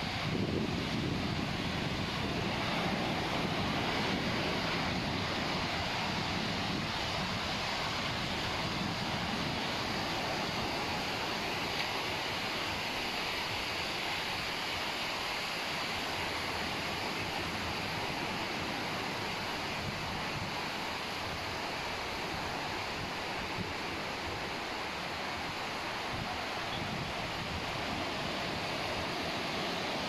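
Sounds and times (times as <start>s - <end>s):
sea surf on a beach: 0.0s - 30.0s.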